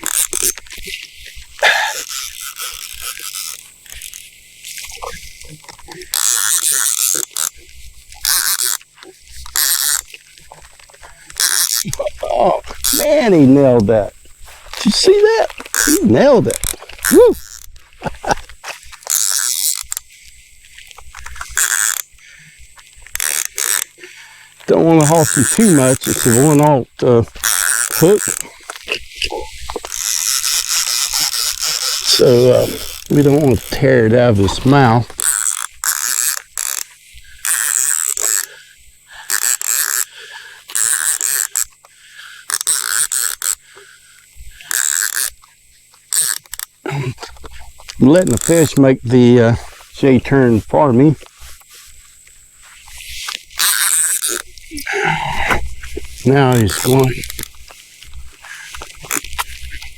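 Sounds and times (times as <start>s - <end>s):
fishing reel ratcheting: 0.0s - 59.9s.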